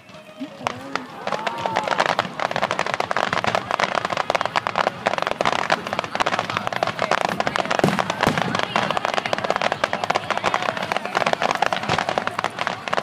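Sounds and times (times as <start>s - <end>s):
fireworks crackling: 0.0s - 13.0s
firework bang: 0.1s - 13.0s.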